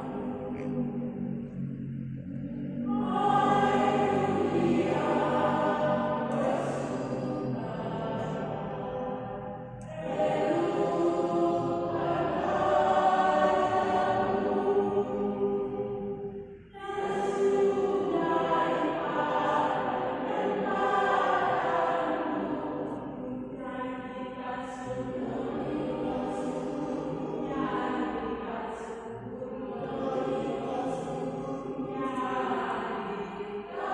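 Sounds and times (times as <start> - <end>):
choir singing in harmony: 0.0 - 33.9.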